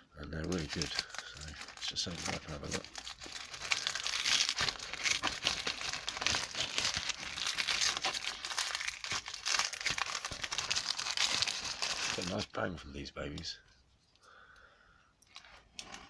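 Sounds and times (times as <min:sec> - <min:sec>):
wrapping crinkling and tearing: 0:00.3 - 0:12.6, 0:15.3 - 0:16.0.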